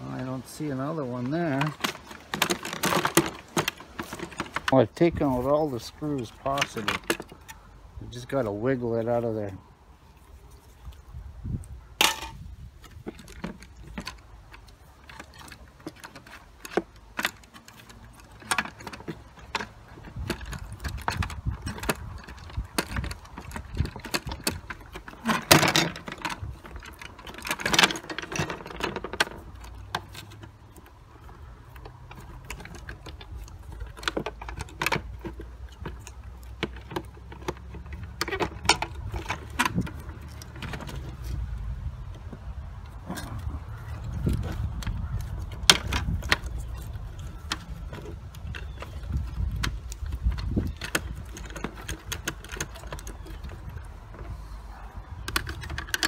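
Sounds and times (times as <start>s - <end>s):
plastic clattering: 1.0s - 7.7s, 12.0s - 56.0s
plastic housing clicking and rattling: 1.3s - 4.9s, 5.6s - 7.7s, 12.0s - 56.0s.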